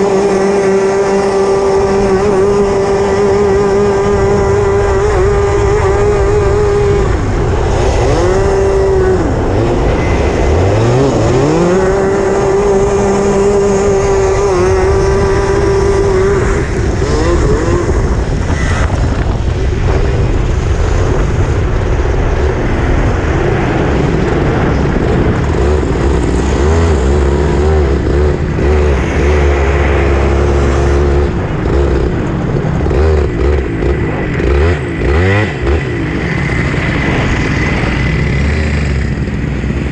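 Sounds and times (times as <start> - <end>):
kart engine revving: 0.0 - 39.9
low rumble: 1.7 - 39.9.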